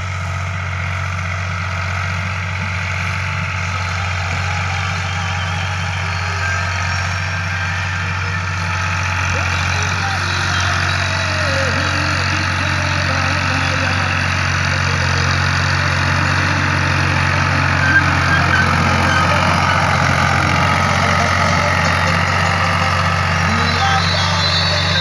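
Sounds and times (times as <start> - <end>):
tractor diesel engine droning: 0.0 - 25.0.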